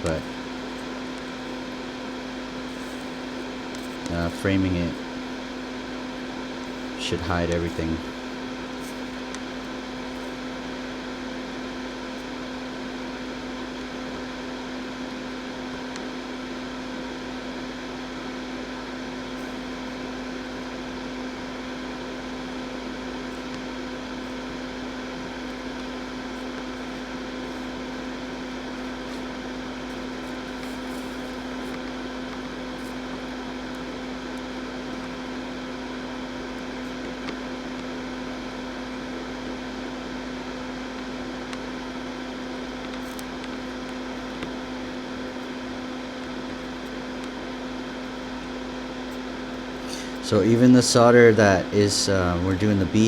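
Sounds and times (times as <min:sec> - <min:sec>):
small electric fan humming: 0:00.0 - 0:53.0.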